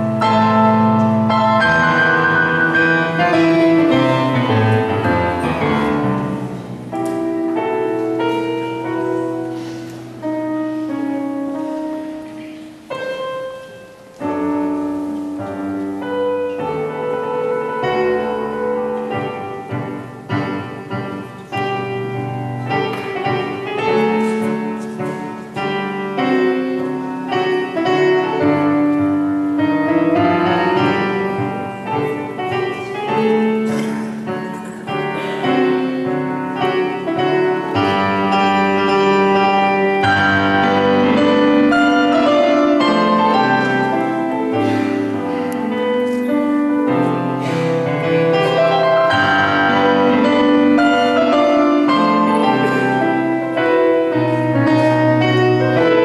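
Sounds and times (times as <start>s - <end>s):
piano playing classical piece: 0.0s - 56.0s.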